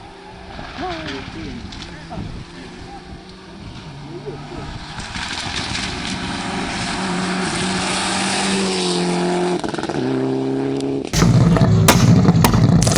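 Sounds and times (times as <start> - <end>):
rally car engine at full throttle: 0.0 - 12.9.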